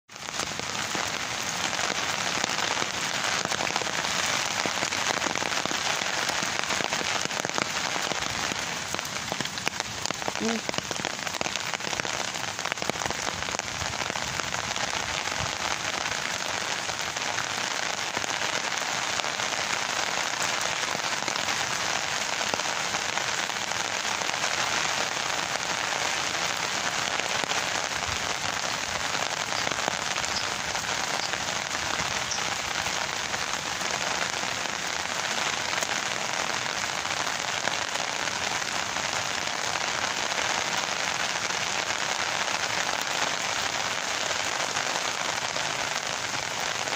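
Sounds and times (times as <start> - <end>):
rain falling on foliage: 0.1 - 46.9.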